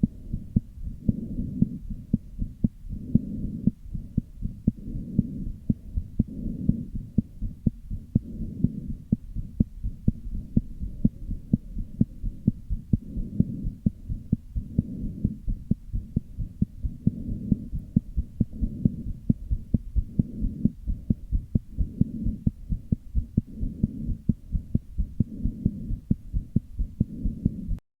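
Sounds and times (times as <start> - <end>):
heart beating thuds: 0.0 - 27.8
low whooshing heart murmur: 0.0 - 27.8.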